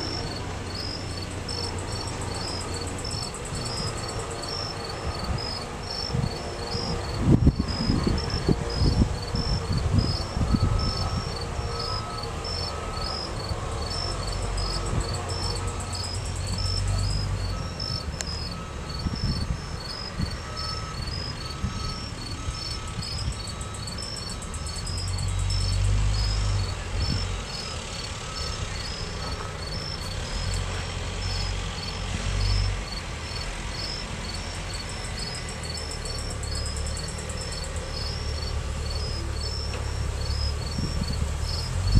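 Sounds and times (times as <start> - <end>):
night insects chirping: 0.0 - 41.9.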